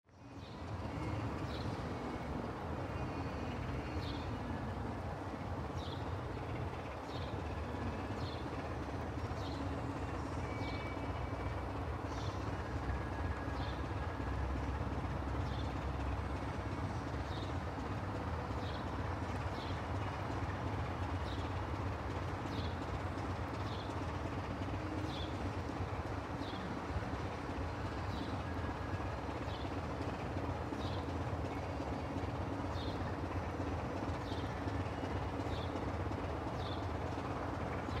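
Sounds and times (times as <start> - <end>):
diesel locomotive engine rumbling: 0.1 - 38.0.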